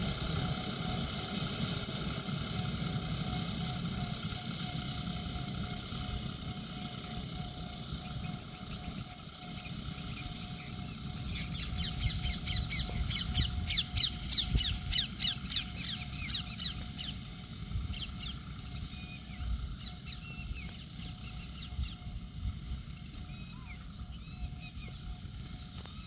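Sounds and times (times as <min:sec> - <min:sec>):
tractor engine rumble: 0:00.0 - 0:26.0.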